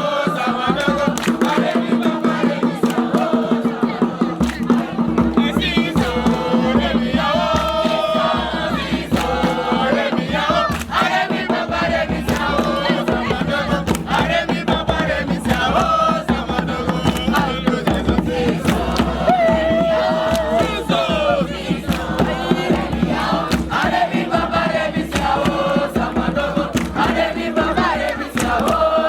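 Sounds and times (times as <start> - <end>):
crowd chanting in unison: 0.0 - 29.0.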